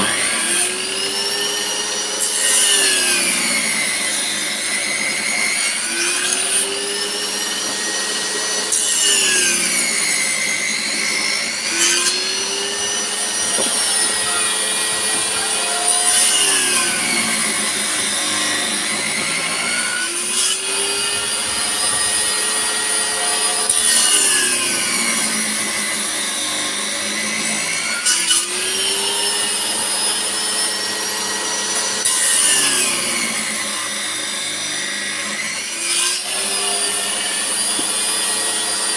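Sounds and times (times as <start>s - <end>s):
angle grinder cutting steel: 0.0s - 38.9s
table saw cutting wood: 0.0s - 38.9s.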